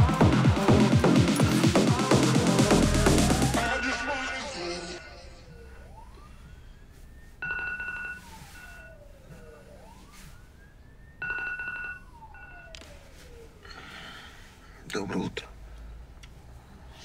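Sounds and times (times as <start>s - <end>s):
siren wailing: 0.0s - 14.8s.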